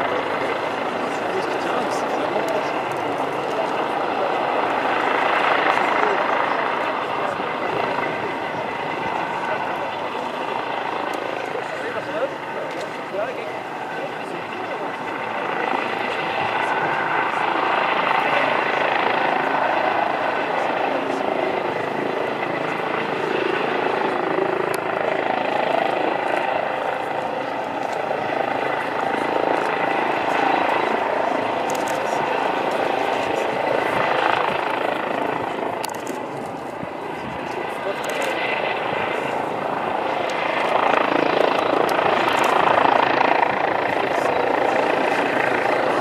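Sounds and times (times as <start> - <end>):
helicopter hovering: 0.0 - 46.0.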